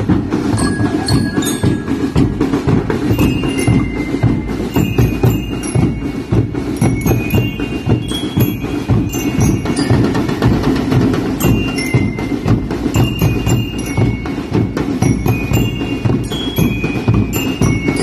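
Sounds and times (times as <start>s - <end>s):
bass drums beating: 0.0s - 18.0s
bell lyre melody: 0.1s - 18.0s.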